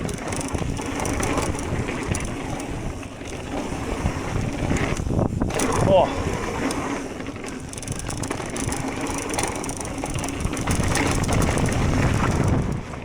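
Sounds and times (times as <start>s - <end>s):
bike freehub ticking: 0.0s - 13.0s
bike rattle: 0.0s - 13.0s
tyre rumble: 0.0s - 13.0s.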